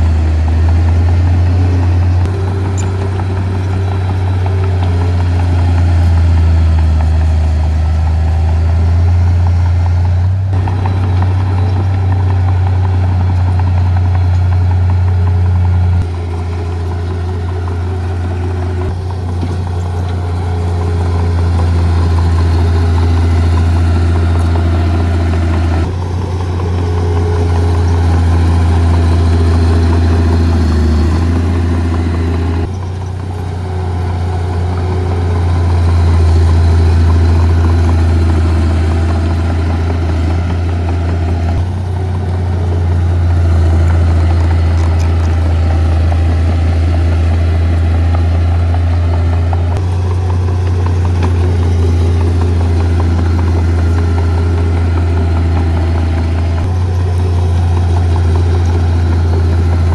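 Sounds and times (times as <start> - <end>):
heavy diesel engine humming: 0.0 - 59.9.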